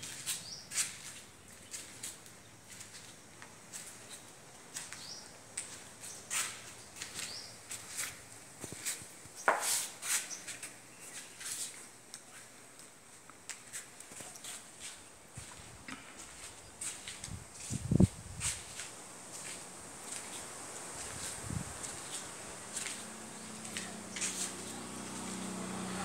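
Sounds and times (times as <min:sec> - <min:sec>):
footsteps on gritty floor: 0:00.0 - 0:25.3.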